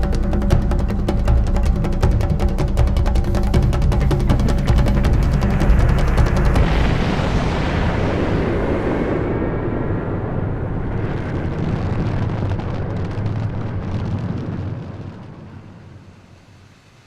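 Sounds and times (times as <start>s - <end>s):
low rumbling roar: 0.0s - 16.4s.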